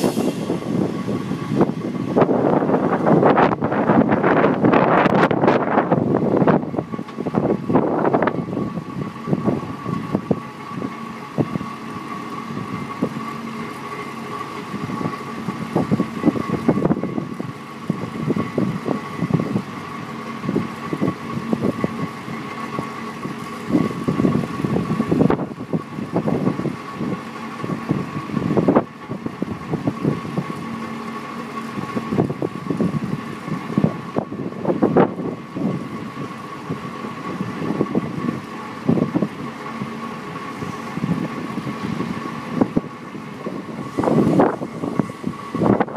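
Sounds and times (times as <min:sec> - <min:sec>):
hydraulic hoist whine: 0:00.0 - 0:45.9
truck engine idling: 0:00.0 - 0:45.9
wind buffeting microphone: 0:00.0 - 0:45.9.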